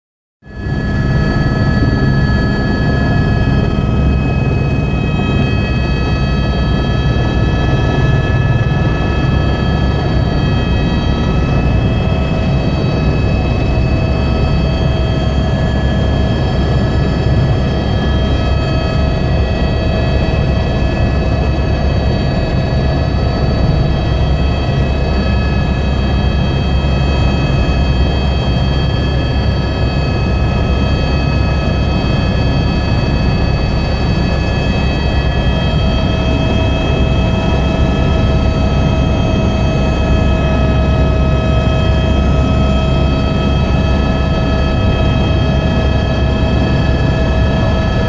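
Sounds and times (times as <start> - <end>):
helicopter engine and rotor rumble: 0.4 - 48.0
high-pitched turbine whine: 0.4 - 48.0.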